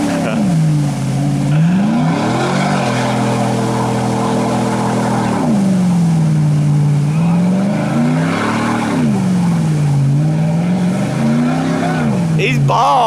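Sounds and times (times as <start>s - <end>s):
pickup engine revving: 0.0s - 13.0s
tires churning muddy water: 0.0s - 13.0s.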